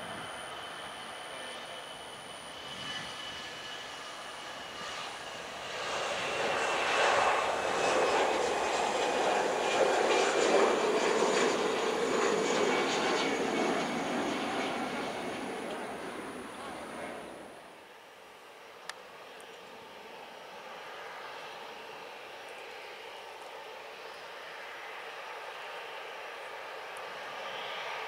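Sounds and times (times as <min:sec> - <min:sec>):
jet engines roaring at takeoff: 0:00.0 - 0:17.8, 0:18.4 - 0:28.0.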